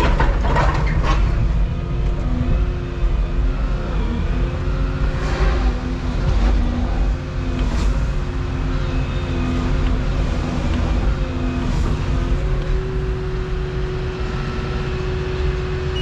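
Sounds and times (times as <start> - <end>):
excavator diesel engine running: 0.0 - 16.0
steady tone: 1.5 - 16.0.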